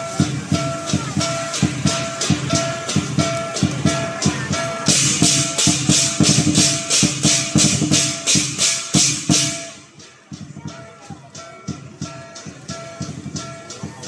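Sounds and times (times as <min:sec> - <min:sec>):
cymbals clashing: 0:00.0 - 0:14.0
drum beating: 0:00.0 - 0:14.0.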